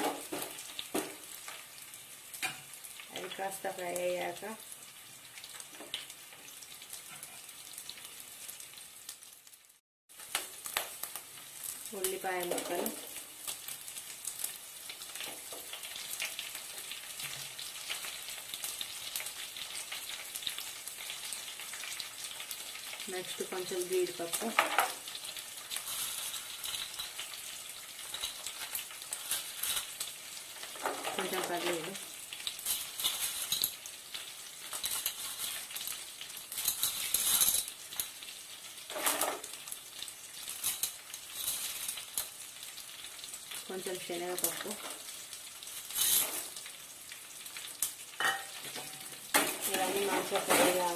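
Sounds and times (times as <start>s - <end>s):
oil sizzling in a pan: 0.0s - 50.9s.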